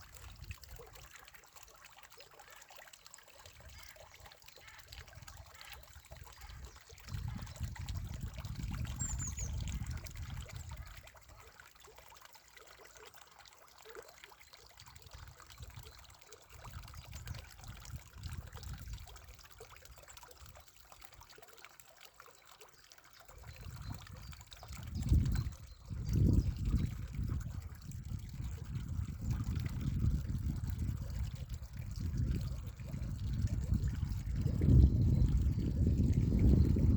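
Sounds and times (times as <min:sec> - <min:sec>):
spring water trickling and splashing: 0:00.0 - 0:36.9.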